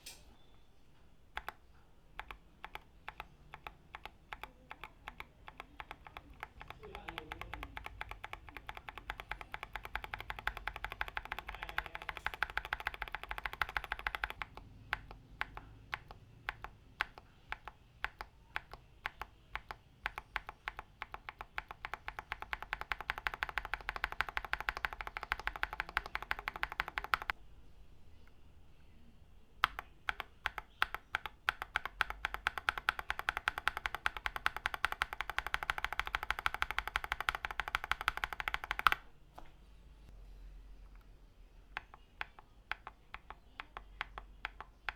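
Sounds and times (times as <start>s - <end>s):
mechanical keyboard typing: 1.3s - 27.4s, 29.6s - 39.1s, 41.8s - 44.9s.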